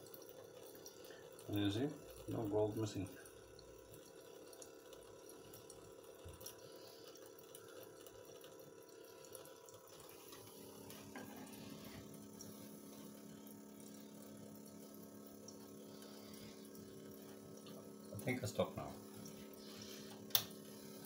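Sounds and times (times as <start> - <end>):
small pump humming: 0.0 - 21.0
water trickling from a hose: 0.0 - 21.0.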